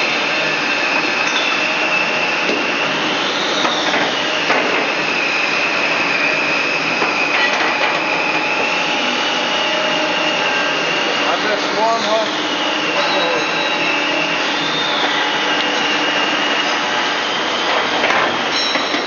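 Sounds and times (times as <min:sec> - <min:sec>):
machinery high whine: 0:00.0 - 0:19.0
noisy hum: 0:00.0 - 0:19.0.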